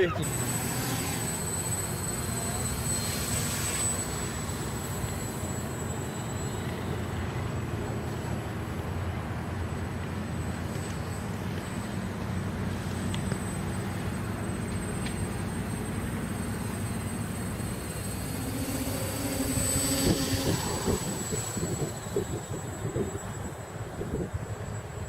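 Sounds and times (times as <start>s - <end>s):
small electric motor droning: 0.0s - 25.0s.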